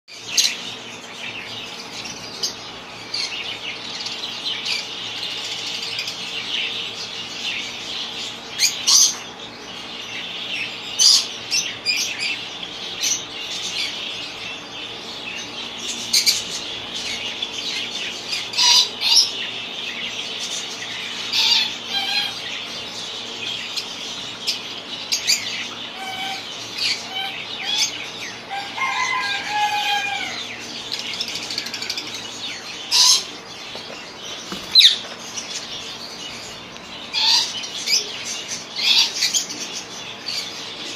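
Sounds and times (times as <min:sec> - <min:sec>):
caged birds chirping: 0:00.1 - 0:40.9.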